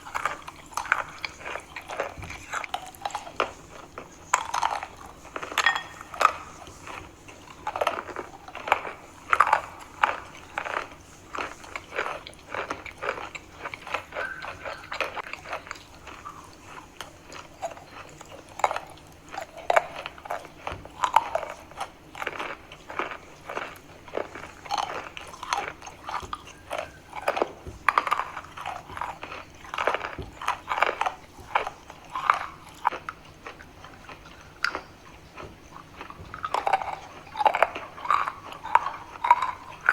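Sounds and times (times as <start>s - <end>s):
chalk being chewed crunching: 0.0s - 39.9s.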